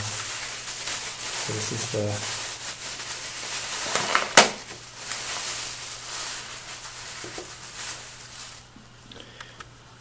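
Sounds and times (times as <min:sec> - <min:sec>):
sharp loud plastic crackle: 0:00.0 - 0:08.8
plastic packaging crinkling: 0:00.0 - 0:08.9.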